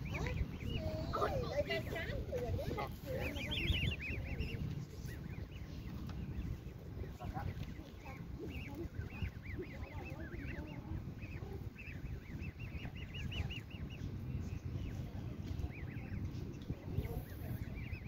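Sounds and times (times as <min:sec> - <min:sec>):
goslings peeping: 0:00.0 - 0:18.0.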